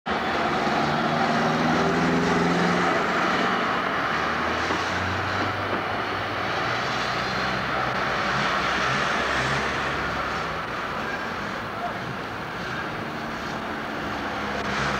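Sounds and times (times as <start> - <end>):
trams and cars passing: 0.1 - 14.9.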